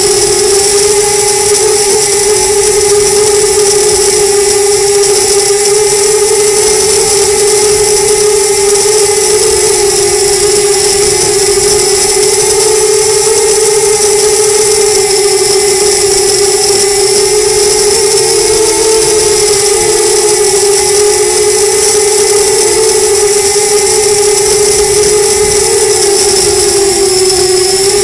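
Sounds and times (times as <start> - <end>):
quadcopter motors humming: 0.0 - 28.0.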